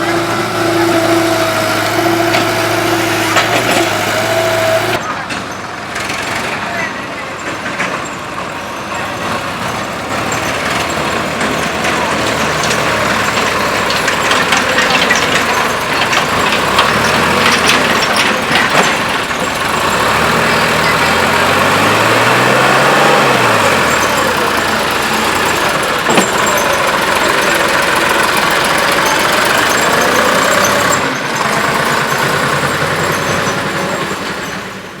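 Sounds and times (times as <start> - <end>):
heavy diesel machinery engine: 0.0 - 35.0.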